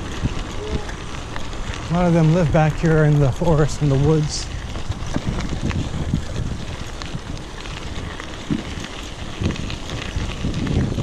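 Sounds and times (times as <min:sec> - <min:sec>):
bike rattling on trail: 0:00.0 - 0:11.0
wind rushing over microphone: 0:00.0 - 0:11.0.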